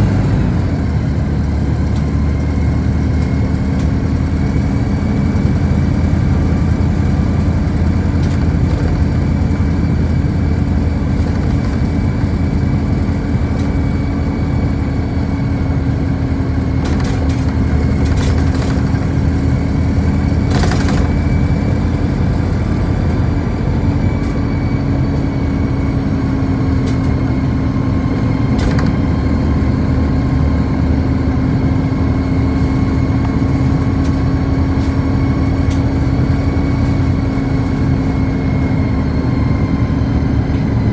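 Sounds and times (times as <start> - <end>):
bus engine and road rumble: 0.0 - 40.9
constant hum: 0.0 - 40.9.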